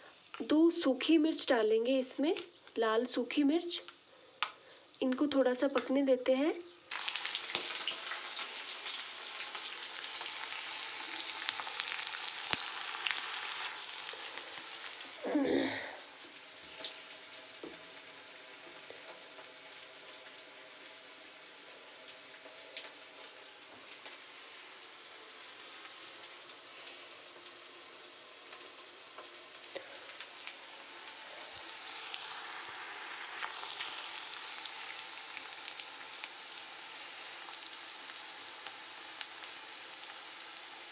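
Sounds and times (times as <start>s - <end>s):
spices and onions sizzling in oil: 0.0s - 40.9s.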